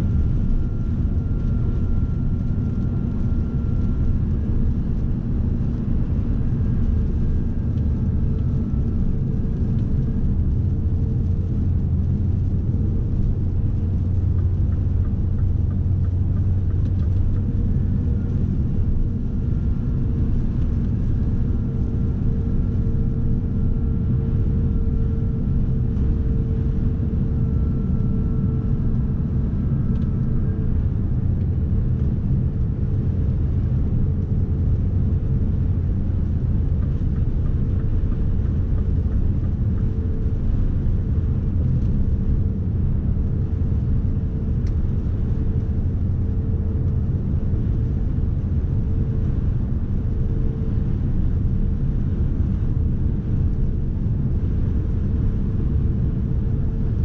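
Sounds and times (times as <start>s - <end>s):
road rumble: 0.0s - 51.3s
faint high whine: 0.0s - 57.0s.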